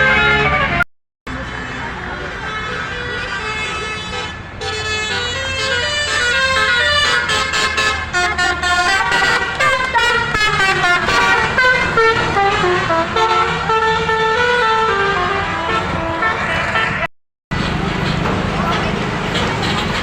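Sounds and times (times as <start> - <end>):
bus horn playing melody: 0.0 - 17.1
bus engine running low: 0.0 - 20.0.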